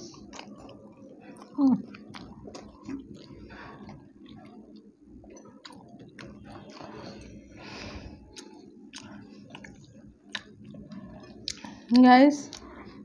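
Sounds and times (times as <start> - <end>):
chewing crispy sandwich: 0.0 - 13.0.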